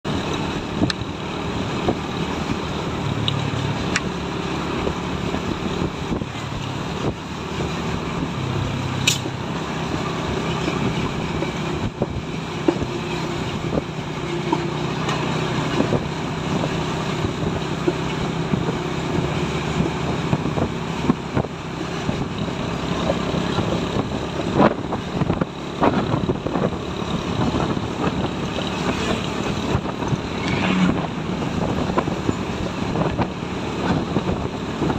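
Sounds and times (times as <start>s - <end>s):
road noise: 0.0s - 34.9s
truck engine running: 0.0s - 34.9s.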